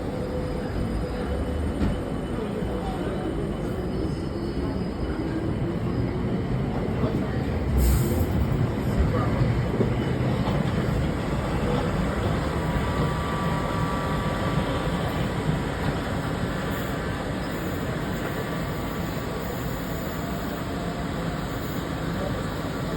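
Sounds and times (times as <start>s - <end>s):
train wheels rumbling: 0.6s - 22.9s.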